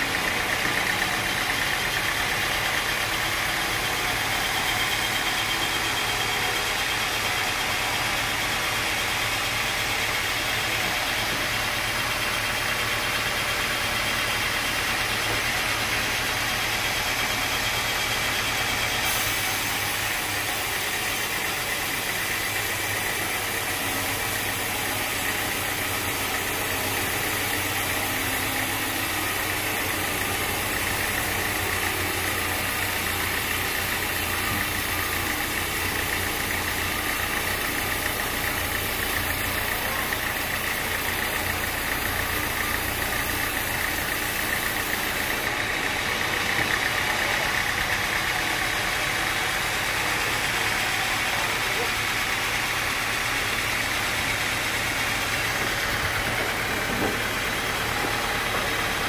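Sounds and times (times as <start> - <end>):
sawmill machinery drone: 0.0 - 59.0.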